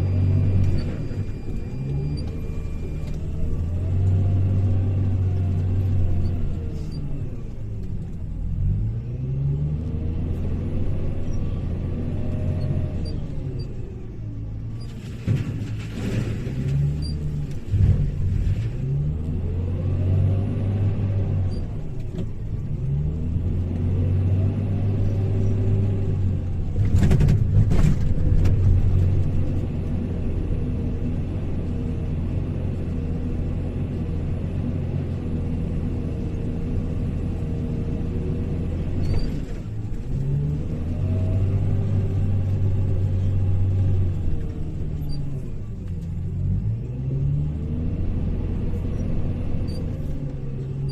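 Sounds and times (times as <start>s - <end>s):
wheel loader diesel engine revving: 0.0s - 50.9s.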